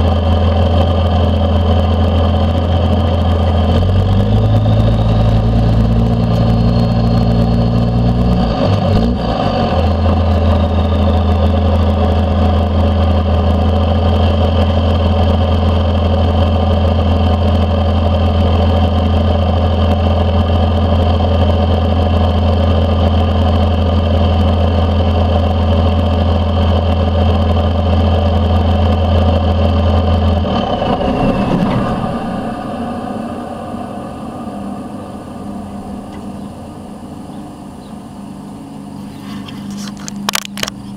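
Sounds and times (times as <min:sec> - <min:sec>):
diesel truck engine drone: 0:00.0 - 0:40.9.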